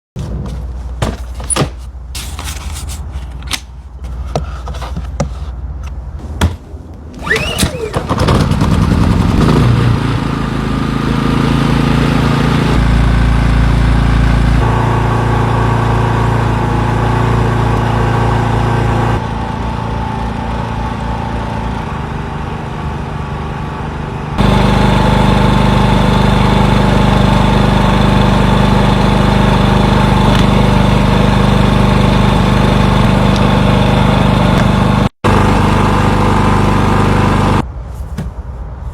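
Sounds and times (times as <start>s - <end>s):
generator engine running: 6.1s - 37.6s.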